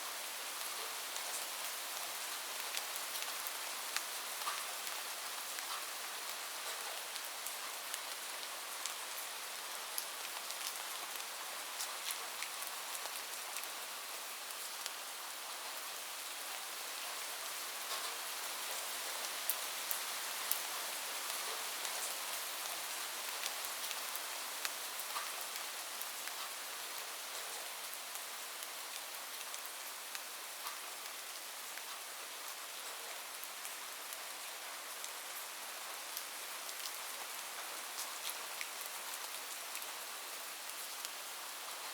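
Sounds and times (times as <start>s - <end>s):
rain falling on a roof: 0.0s - 41.9s.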